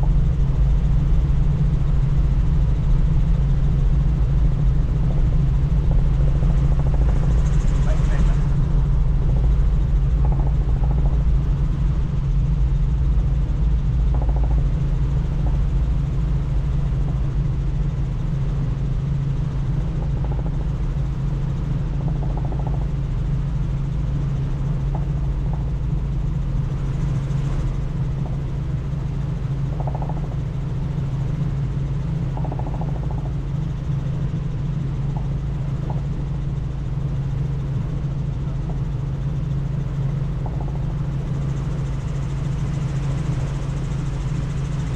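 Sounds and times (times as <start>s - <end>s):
helicopter rotor and engine drone: 0.0s - 44.9s.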